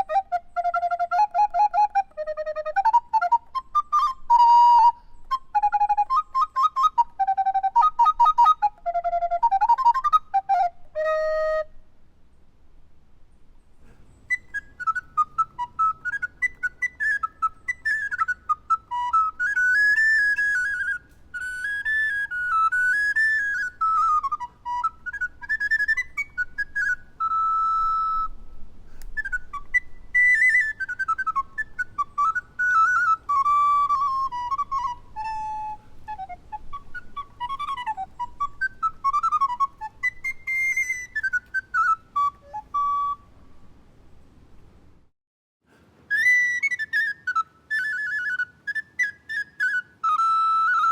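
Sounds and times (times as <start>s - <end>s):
solo recorder melody: 0.0s - 11.9s, 14.1s - 43.8s, 46.0s - 50.9s.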